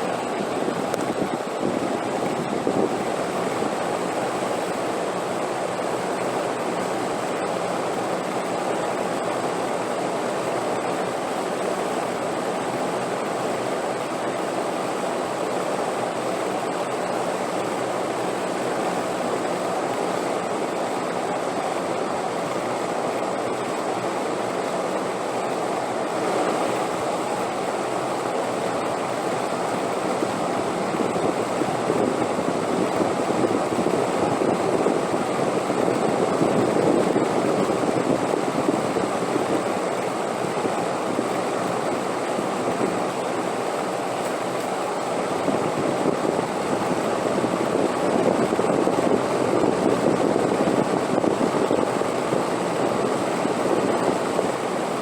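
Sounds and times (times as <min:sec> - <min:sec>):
rushing wind gusts: 0:00.0 - 0:12.8, 0:14.8 - 0:55.0.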